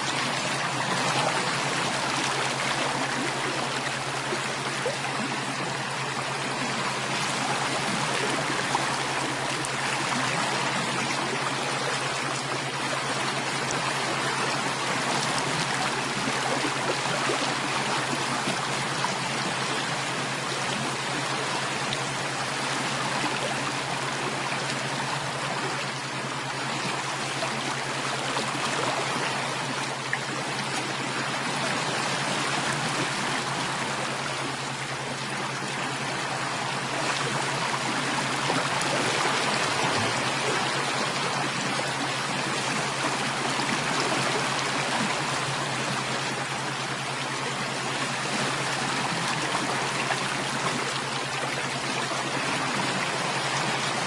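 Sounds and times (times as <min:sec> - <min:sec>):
stream running water: 0:00.0 - 0:54.0.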